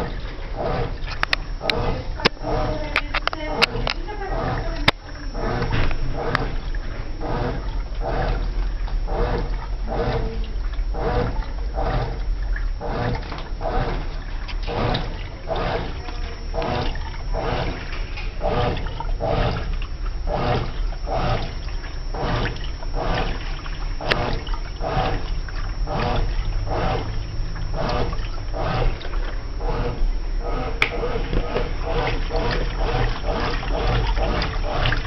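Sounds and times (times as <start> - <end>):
water sloshing in washing machine: 0.0 - 35.0.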